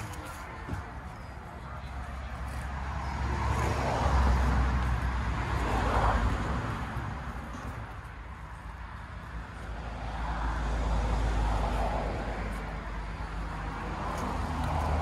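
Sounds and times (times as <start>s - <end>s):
car traffic passing: 0.0s - 15.0s.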